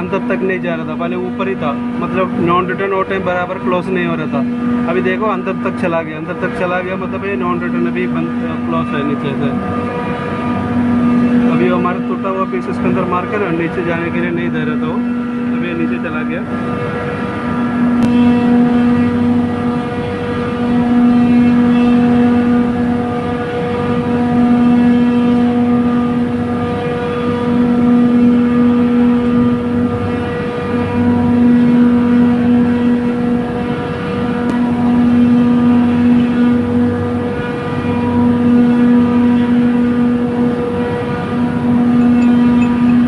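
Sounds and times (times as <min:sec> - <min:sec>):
chiller compressor humming: 0:00.0 - 0:43.0.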